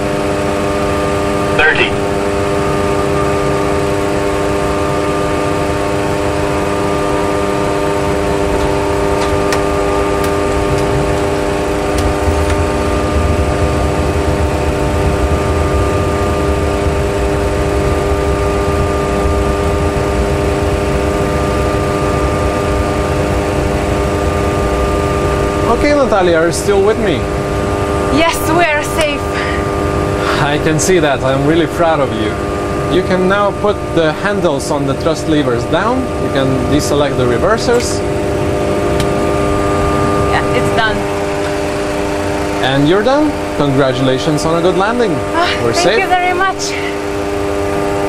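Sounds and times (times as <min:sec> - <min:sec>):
jet engines humming: 0:00.0 - 0:48.0
low rumble of jet rolling out: 0:00.0 - 0:48.0.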